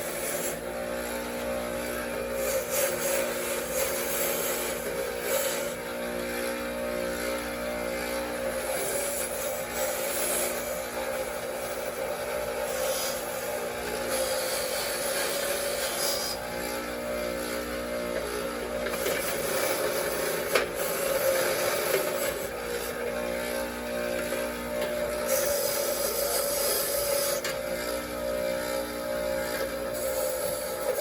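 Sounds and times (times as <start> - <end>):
wire wheel motor hum: 0.0 - 31.0.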